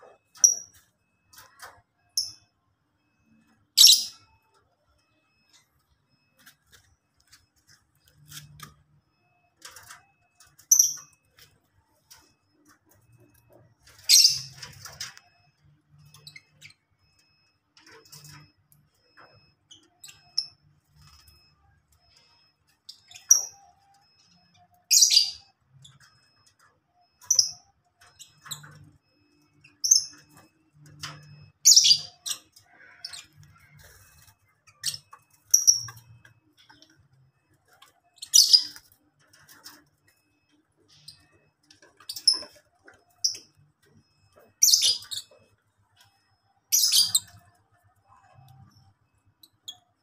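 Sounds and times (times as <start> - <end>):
quiet bird chirps: 8.0 - 11.2, 11.8 - 50.0.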